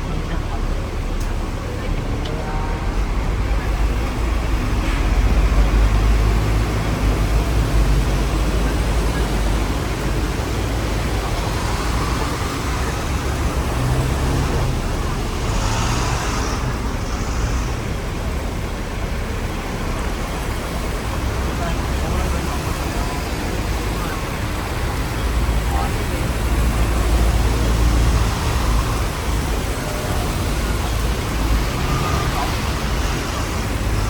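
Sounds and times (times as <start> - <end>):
road traffic: 0.0 - 34.0
tram rumbling: 0.0 - 34.0.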